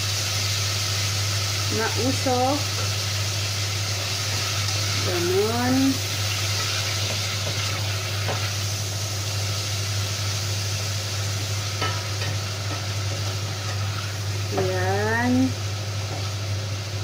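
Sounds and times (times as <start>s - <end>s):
garlic and chicken sizzling: 0.0s - 17.0s.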